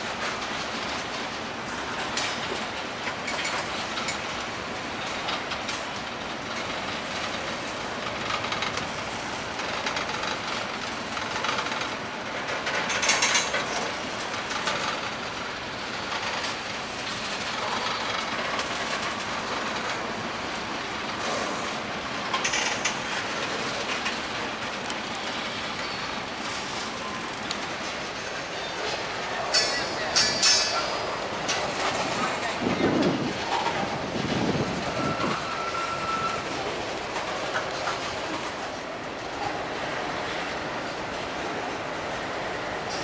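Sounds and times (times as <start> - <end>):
freight train wheels rumbling on rails: 0.0 - 43.0.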